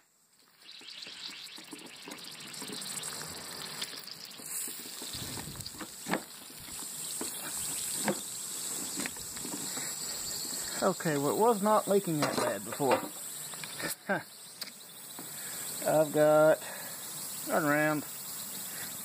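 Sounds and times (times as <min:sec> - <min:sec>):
pressurised water spraying hiss: 0:00.1 - 0:19.0.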